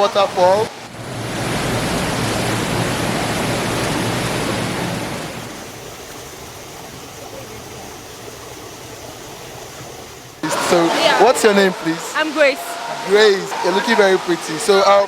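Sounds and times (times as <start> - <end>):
waterfall rushing water: 0.0 - 15.0.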